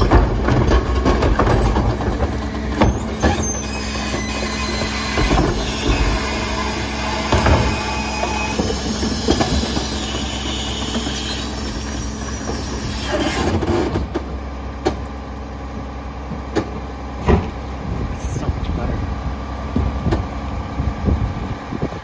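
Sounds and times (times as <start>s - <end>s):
diesel engine humming: 0.0s - 22.0s
hydraulic whine: 0.0s - 22.0s.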